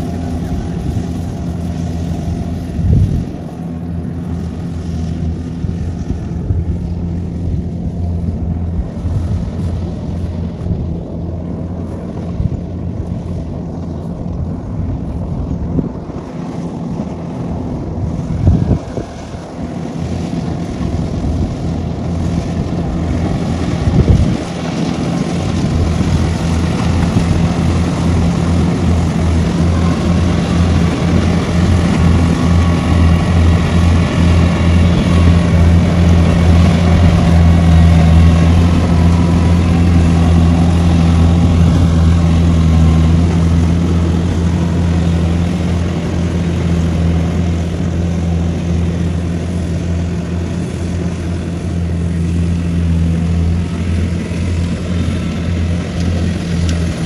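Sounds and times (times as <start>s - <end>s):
combine harvester engine droning: 0.0s - 57.0s.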